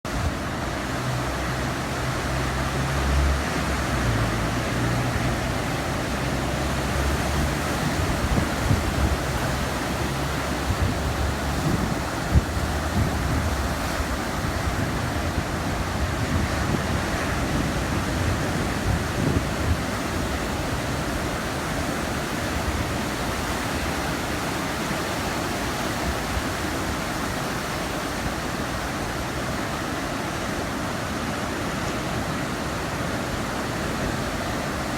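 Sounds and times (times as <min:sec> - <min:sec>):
ocean surf breaking on beach: 0:00.1 - 0:34.9
wind rumbling on microphone: 0:00.1 - 0:34.9.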